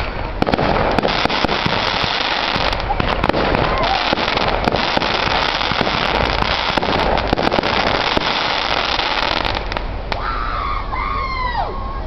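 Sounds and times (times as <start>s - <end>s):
fireworks crackling and popping: 0.0s - 10.4s.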